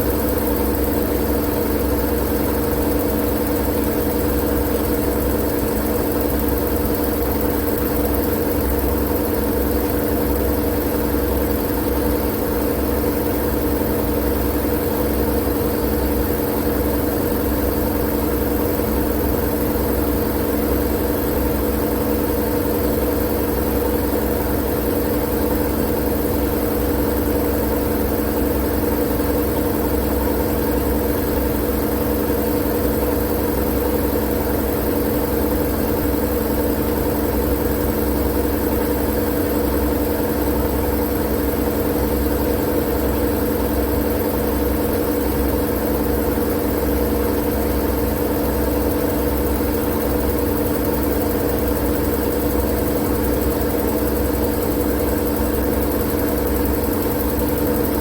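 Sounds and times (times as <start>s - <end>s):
machine-like hum: 0.0s - 58.0s.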